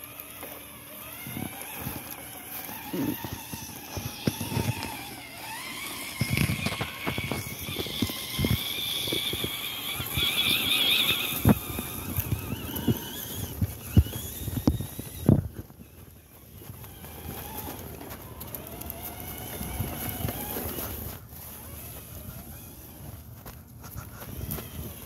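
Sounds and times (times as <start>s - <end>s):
radio-control truck motors whining: 0.0s - 25.0s.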